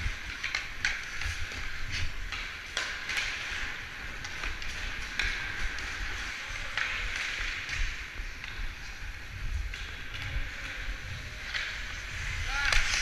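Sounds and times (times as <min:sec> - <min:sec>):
skate blades scraping on ice: 0:00.0 - 0:13.0.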